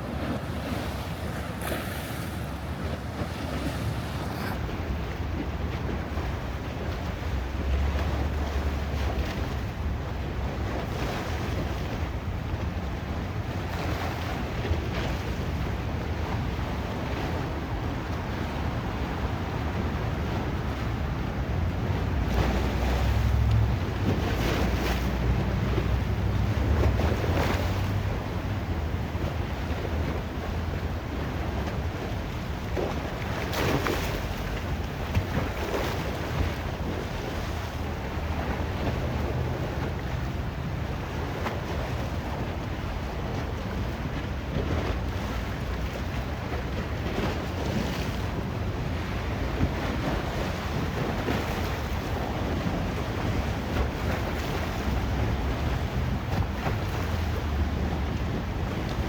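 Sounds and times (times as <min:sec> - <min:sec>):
wind buffeting microphone: 0:00.0 - 0:09.5, 0:10.2 - 0:59.0
ocean waves breaking on shore: 0:00.0 - 0:59.0.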